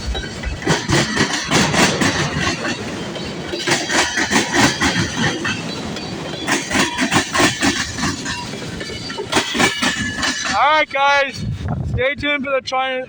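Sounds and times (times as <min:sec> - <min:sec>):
freight train wheels clicking: 0:00.0 - 0:11.6
train rumble: 0:00.0 - 0:12.6.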